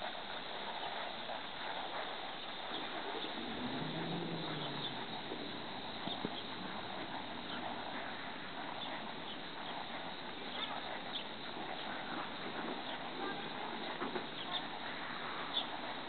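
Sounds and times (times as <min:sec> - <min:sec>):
horse hoofbeats on dirt: 0:00.0 - 0:16.0
steady outdoor hiss: 0:00.0 - 0:16.0.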